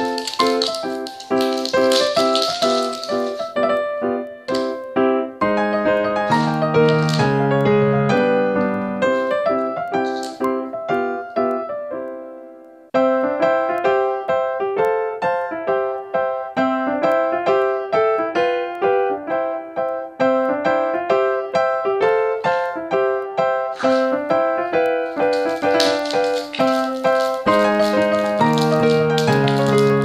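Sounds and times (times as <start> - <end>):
light piano keyboard tune: 0.0 - 30.0.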